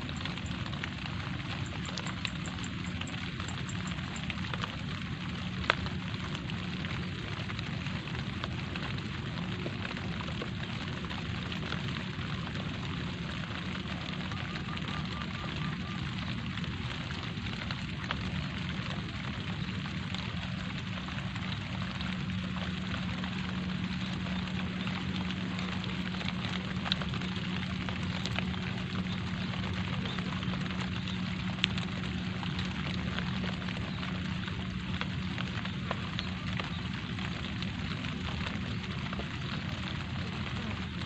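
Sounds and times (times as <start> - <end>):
light rain falling: 0.0 - 41.0
raindrop hits: 0.0 - 41.0.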